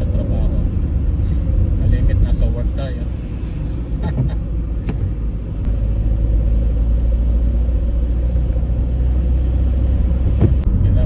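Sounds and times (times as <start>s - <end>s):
car road noise on wet road: 0.0s - 11.0s.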